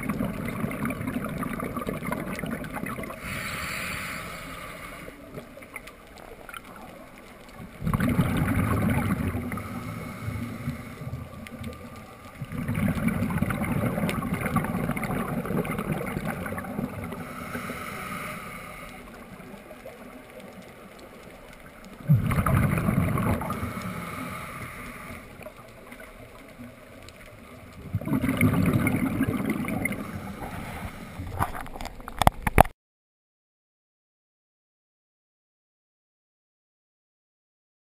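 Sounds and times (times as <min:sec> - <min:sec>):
exhaled bubbles underwater: 0:00.0 - 0:32.7.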